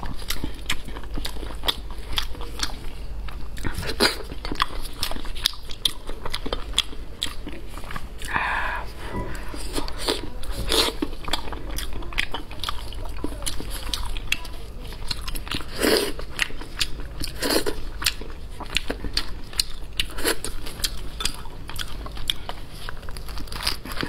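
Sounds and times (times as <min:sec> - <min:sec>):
chewing and biting meat: 0:00.0 - 0:24.0.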